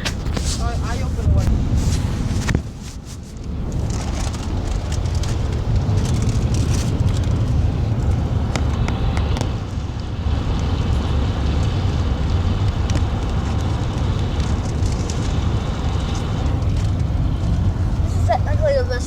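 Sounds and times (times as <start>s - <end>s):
rain ticking on vehicle body: 0.0s - 19.0s
truck engine and road rumble: 0.0s - 19.0s.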